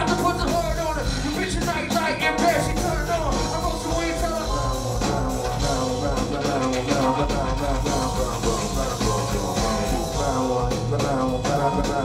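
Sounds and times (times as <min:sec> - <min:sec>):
live rap music with heavy bass: 0:00.0 - 0:12.0.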